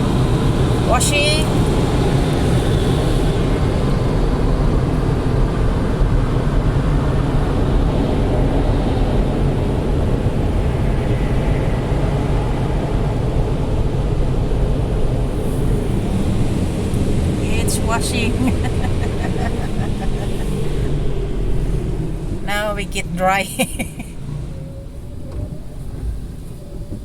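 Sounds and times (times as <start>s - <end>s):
car wash water rushing: 0.0s - 27.0s.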